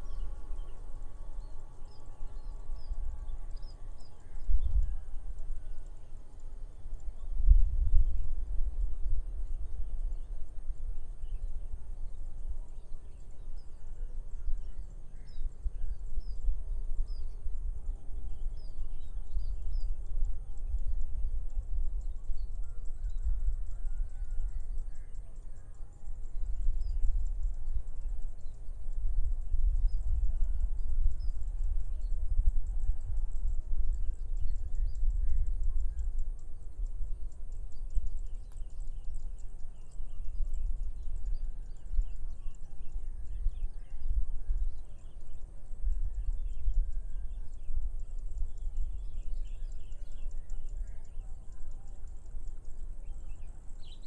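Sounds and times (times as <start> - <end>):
gusty wind on microphone: 0.0 - 6.0, 6.6 - 25.0, 26.1 - 50.8
steady high-pitched hiss: 0.0 - 54.0.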